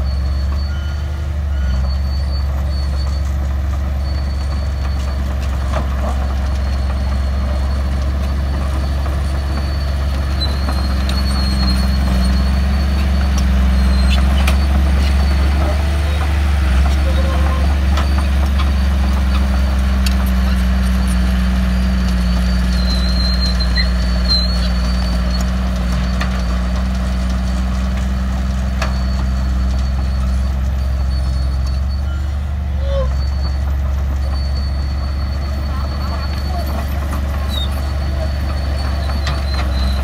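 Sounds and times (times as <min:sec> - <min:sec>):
bulldozer diesel engine running: 0:00.0 - 0:40.0
excavator engine running: 0:00.0 - 0:40.0.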